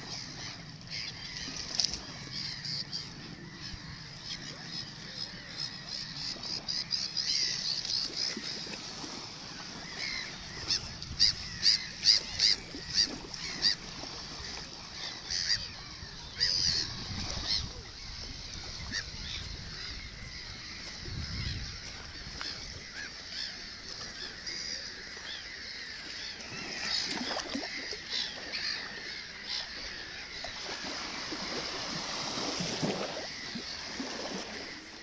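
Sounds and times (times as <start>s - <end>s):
flock of birds calling: 0.0s - 35.0s.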